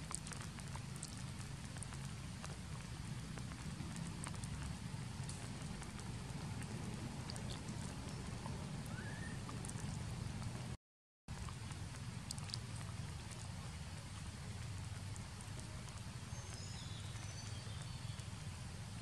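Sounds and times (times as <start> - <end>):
low rumbling hiss: 0.0 - 19.0.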